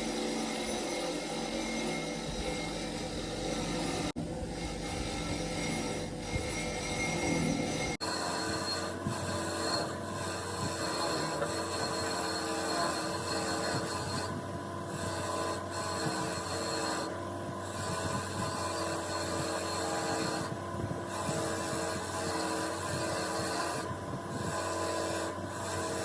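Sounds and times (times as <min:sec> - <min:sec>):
machine running: 0:00.0 - 0:26.0
metal rasping: 0:00.0 - 0:26.0.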